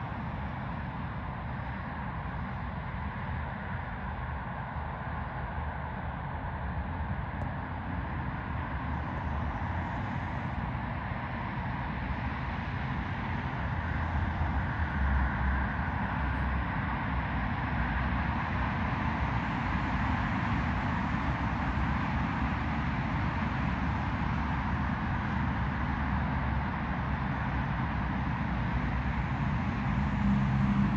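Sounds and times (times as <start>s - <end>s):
jet engines rumbling and hissing: 0.0s - 30.9s.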